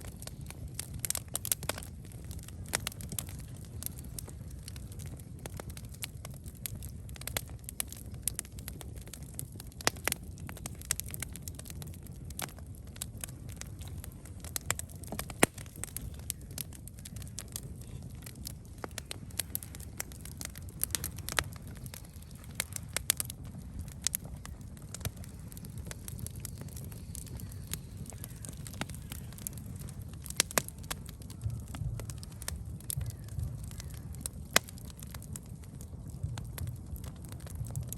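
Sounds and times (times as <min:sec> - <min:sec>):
fire crackling and popping: 0:00.0 - 0:37.9
flames rumbling: 0:00.0 - 0:37.9.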